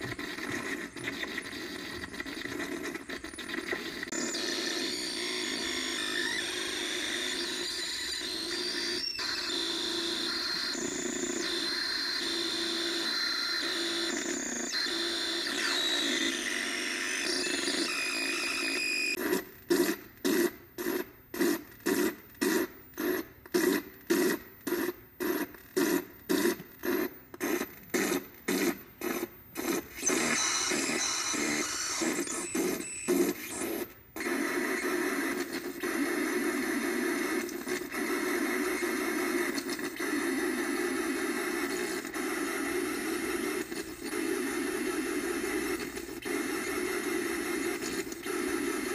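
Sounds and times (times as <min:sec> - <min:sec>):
rhythmic noise pulse: 0:00.0 - 0:07.6, 0:08.2 - 0:48.9
harsh synthesizer noise: 0:00.0 - 0:24.4, 0:25.3 - 0:48.9.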